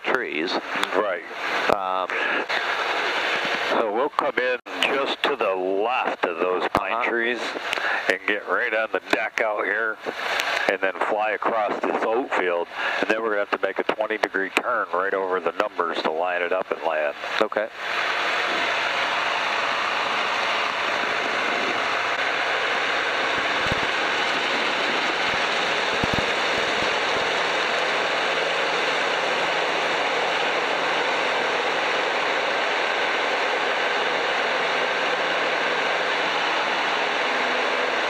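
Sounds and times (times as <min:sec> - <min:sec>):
airplane engine and propeller: 0:00.0 - 0:38.0.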